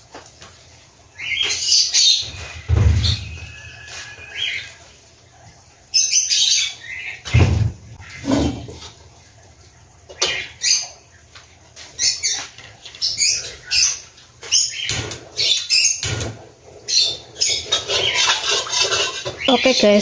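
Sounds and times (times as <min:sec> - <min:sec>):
small birds chirping: 0:01.1 - 0:08.9, 0:09.6 - 0:20.0.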